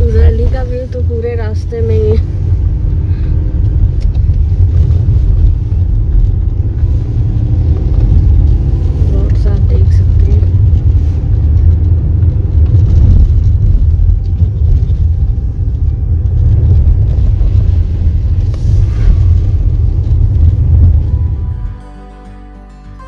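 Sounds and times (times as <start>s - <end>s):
car tyres and engine rumbling: 0.0s - 21.9s.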